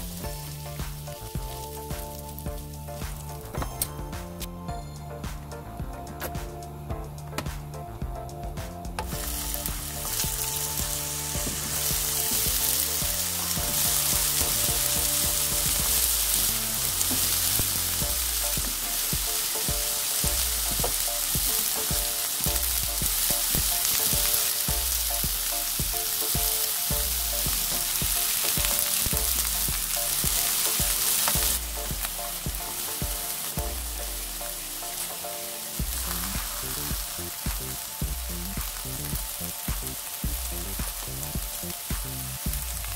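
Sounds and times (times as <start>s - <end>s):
vegetables sizzling in hot oil: 0.0s - 3.3s, 9.1s - 42.9s.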